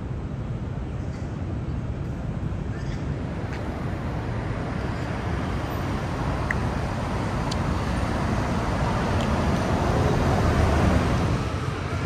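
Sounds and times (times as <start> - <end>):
cars passing on street: 0.0 - 12.0.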